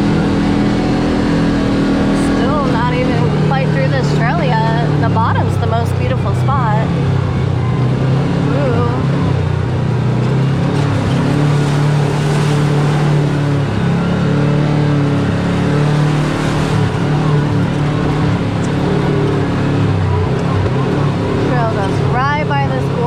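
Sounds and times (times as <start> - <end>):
utility vehicle engine droning: 0.0 - 23.0.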